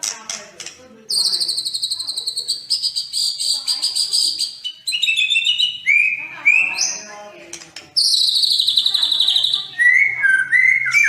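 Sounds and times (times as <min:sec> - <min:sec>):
songbird singing trills: 0:01.1 - 0:07.2, 0:07.9 - 0:11.0.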